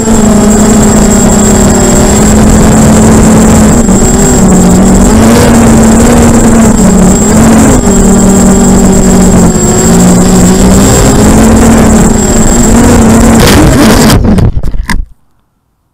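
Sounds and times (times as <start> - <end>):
drone hitting branches: 0.0 - 15.2
quadcopter motors buzzing: 0.0 - 15.2.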